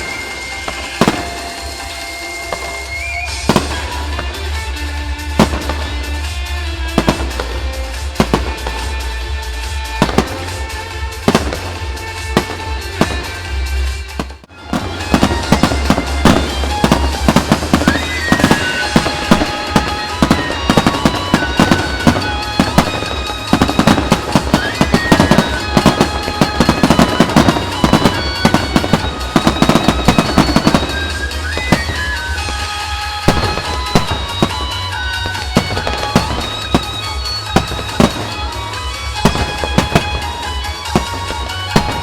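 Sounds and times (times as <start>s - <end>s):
fireworks bursting and crackling: 0.0s - 42.0s
music: 0.0s - 42.0s.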